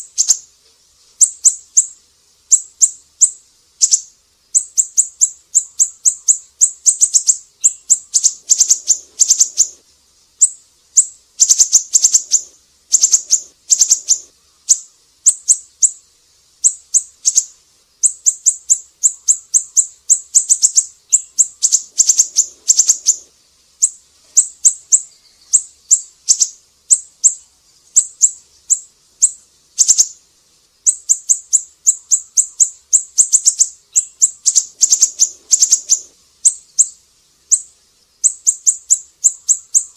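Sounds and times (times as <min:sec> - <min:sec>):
bird chirping rapidly: 0:00.0 - 0:00.5, 0:01.2 - 0:09.8, 0:10.4 - 0:30.2, 0:30.8 - 0:39.9.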